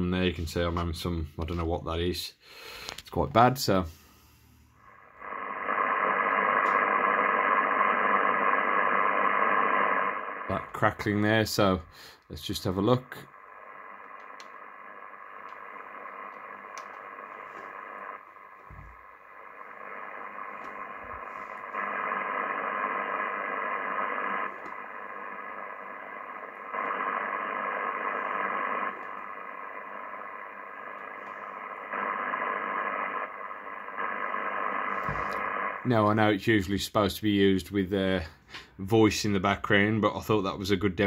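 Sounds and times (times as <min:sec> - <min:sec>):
radio crackling hiss: 0:00.0 - 0:41.0.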